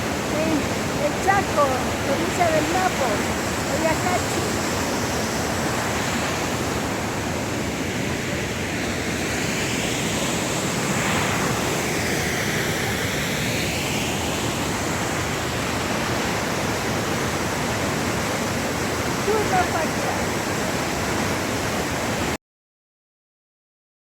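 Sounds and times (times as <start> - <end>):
waterfall rushing: 0.0 - 22.4.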